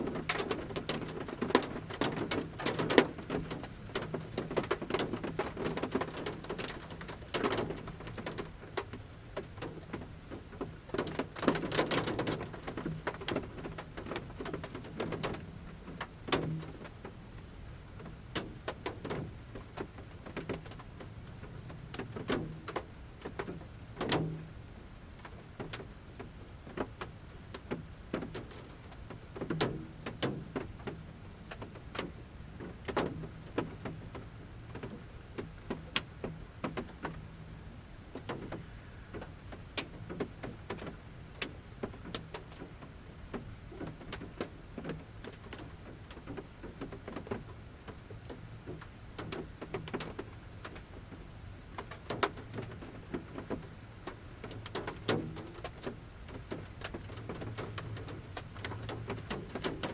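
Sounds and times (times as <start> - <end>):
raindrops tapping on metal roof: 0.0 - 59.9.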